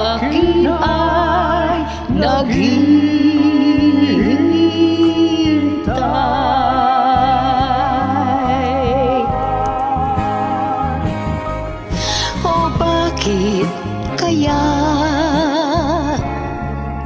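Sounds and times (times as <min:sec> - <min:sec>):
man and woman singing duet: 0:00.0 - 0:16.4
karaoke backing track: 0:00.0 - 0:17.0.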